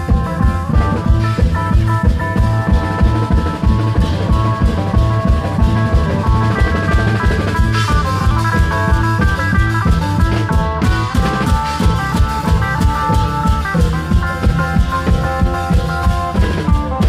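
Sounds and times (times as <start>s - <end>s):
fast drumming: 0.0s - 17.0s
held melodic notes: 0.0s - 17.0s.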